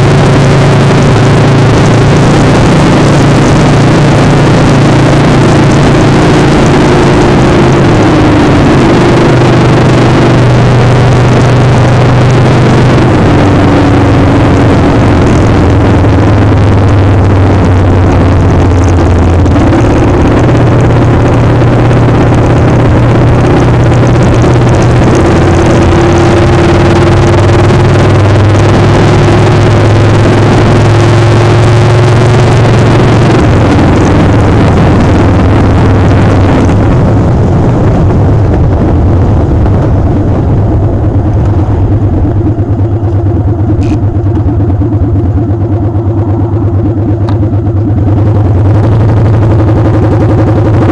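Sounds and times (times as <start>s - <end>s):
wind rushing across microphone: 0.0s - 45.1s
motorcycle engine running: 0.0s - 50.9s.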